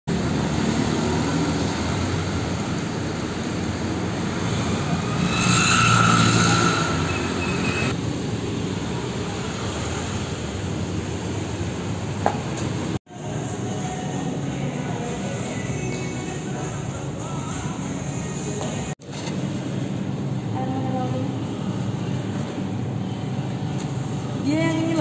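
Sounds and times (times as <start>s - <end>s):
roadside traffic: 0.1s - 25.0s.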